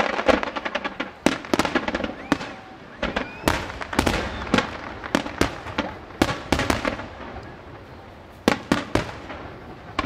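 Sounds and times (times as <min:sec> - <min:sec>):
fireworks bangs: 0:00.0 - 0:10.0
fireworks crackle and rumble: 0:00.0 - 0:10.0.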